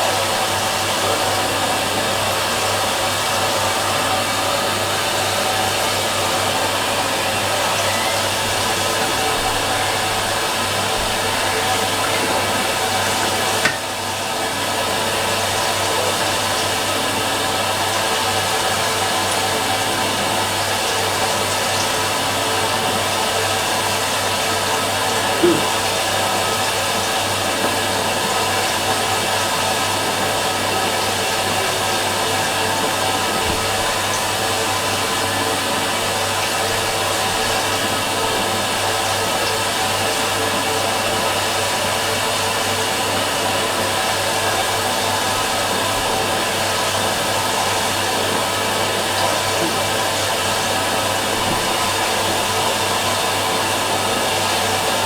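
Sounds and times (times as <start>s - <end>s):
washing machine whirring: 0.0s - 55.0s.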